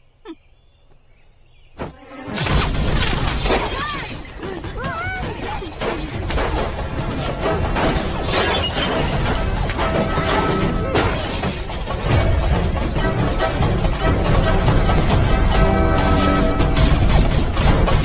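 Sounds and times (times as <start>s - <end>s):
action film score: 1.8s - 18.0s
fight hits and crashes: 1.8s - 18.0s
things smashing and breaking: 2.3s - 18.0s.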